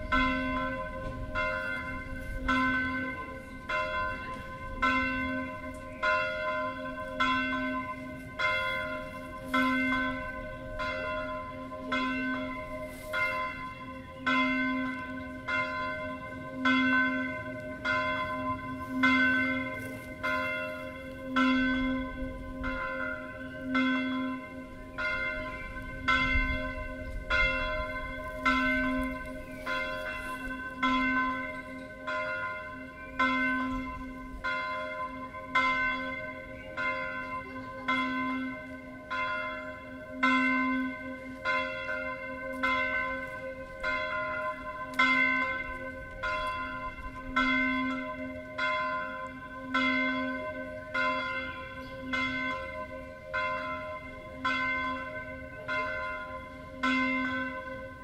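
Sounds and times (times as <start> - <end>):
church bell ringing: 0.0 - 58.0.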